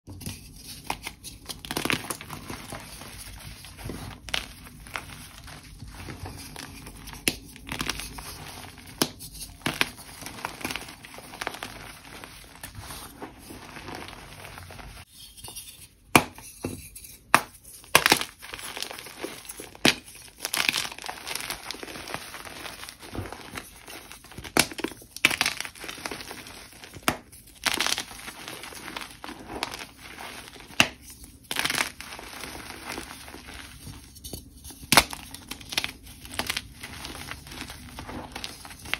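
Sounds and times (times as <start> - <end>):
chalk crunching and crumbling: 0.2 - 15.8, 16.9 - 38.9.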